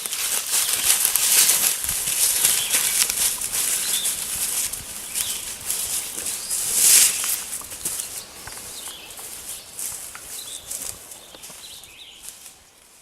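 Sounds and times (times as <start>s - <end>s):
rustling in dry leaf litter: 0.0s - 13.0s.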